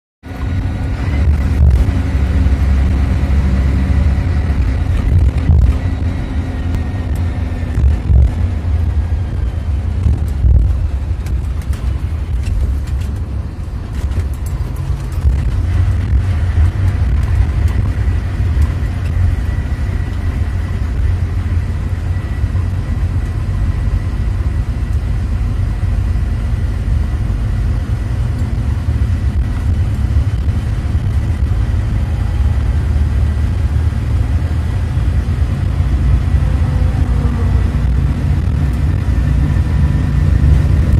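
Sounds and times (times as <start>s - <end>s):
bus engine and road rumble: 0.2s - 40.9s.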